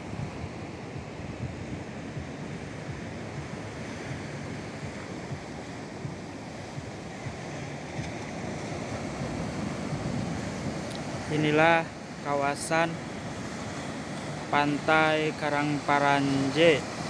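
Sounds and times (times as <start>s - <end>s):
wind rumble on microphone: 0.0s - 14.9s
ocean surf breaking: 0.0s - 17.0s.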